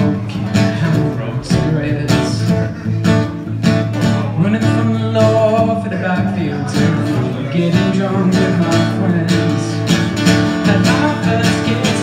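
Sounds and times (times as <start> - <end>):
man singing pop song: 0.0 - 3.2, 4.0 - 12.0
acoustic guitar strumming: 0.0 - 12.0.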